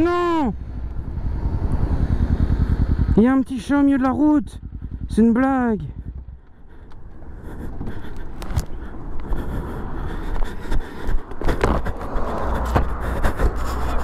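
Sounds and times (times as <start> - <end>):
highway traffic passing: 0.0 - 14.0.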